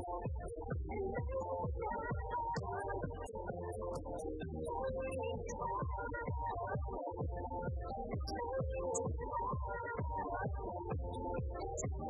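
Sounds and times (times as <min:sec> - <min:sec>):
low bass thumps: 0:00.0 - 0:05.1, 0:05.7 - 0:12.0.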